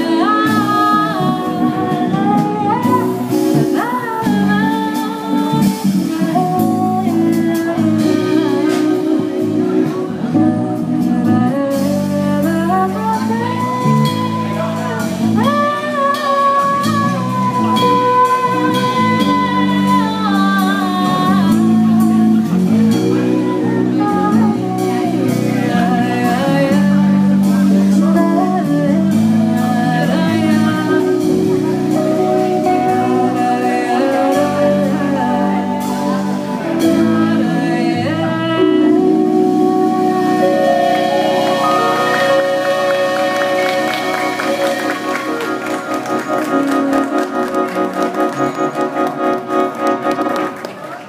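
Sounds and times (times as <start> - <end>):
woman singing: 0.0 - 48.0
live band playing soul song: 0.0 - 51.0.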